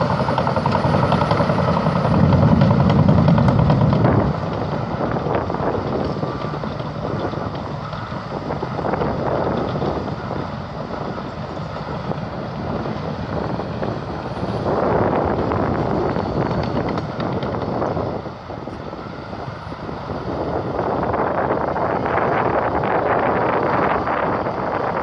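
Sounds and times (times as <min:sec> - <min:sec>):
bulldozer diesel engine working: 0:00.0 - 0:25.0.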